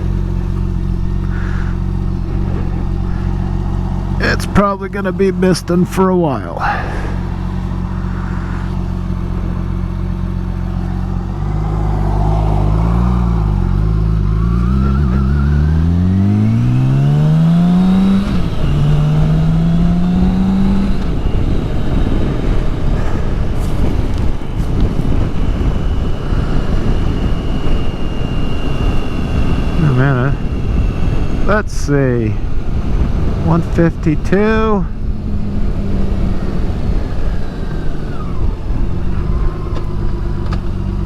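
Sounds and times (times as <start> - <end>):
motorcycle engine accelerating: 0.0 - 41.0
wind and road noise: 0.0 - 41.0.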